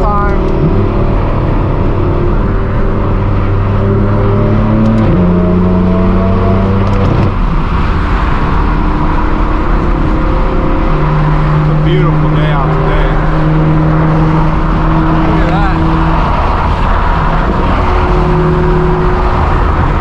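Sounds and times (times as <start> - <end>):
car exhaust droning: 0.0 - 20.0
road noise: 0.0 - 20.0.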